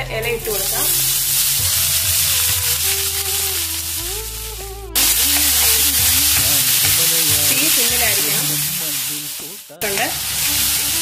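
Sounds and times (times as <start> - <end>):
leaves sizzling in hot oil: 0.0 - 11.0
soft background music: 0.0 - 11.0.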